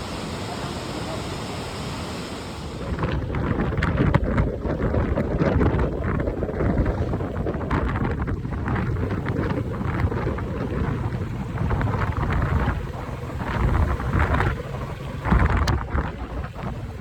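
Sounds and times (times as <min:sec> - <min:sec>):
motorbike riding noise: 0:00.0 - 0:17.0
wind buffeting microphone: 0:00.0 - 0:17.0.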